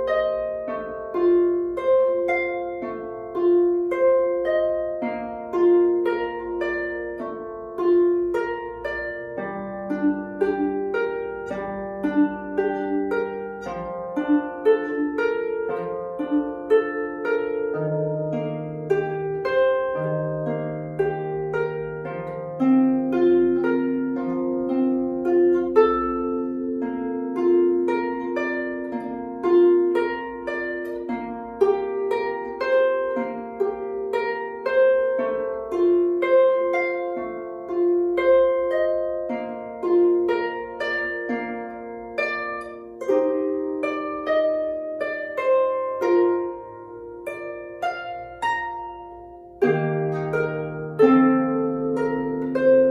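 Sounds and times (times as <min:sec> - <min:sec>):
harp playing melody: 0:00.0 - 0:52.9.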